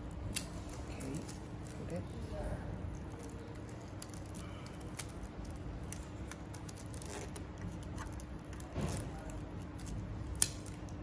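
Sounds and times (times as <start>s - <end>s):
faint steady hum: 0.0s - 11.0s
tape peeling rustles: 0.1s - 11.0s.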